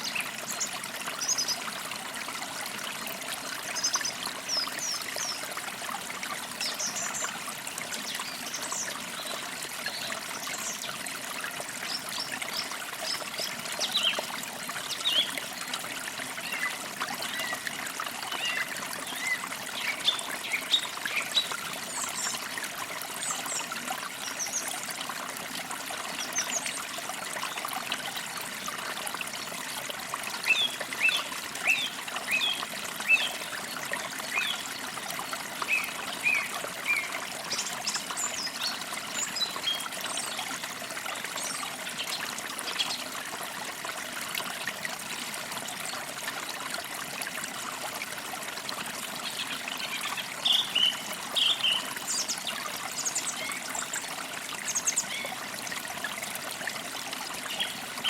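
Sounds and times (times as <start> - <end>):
creek trickling: 0.0 - 58.0.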